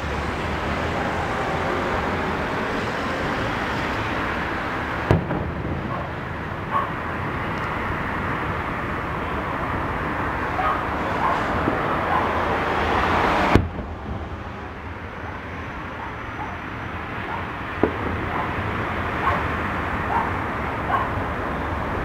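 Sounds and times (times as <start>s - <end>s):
outdoor background noise: 0.0s - 22.0s
distant fireworks: 0.2s - 22.0s.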